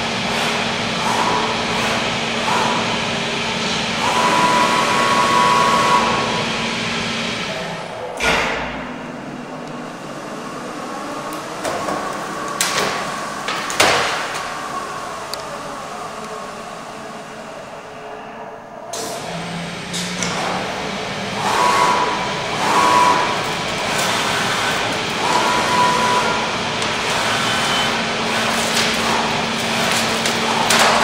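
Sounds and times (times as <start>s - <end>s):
cutting machine rush and hum: 0.0s - 17.2s, 19.0s - 31.0s.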